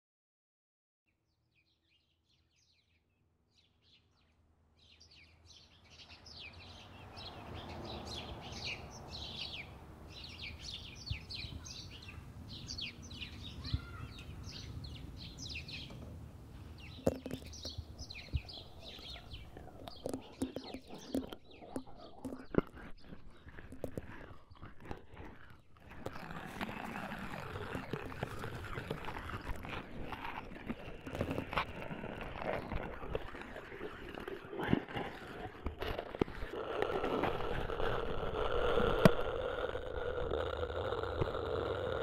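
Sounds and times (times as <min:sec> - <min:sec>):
birds chirping: 0:01.5 - 0:42.0.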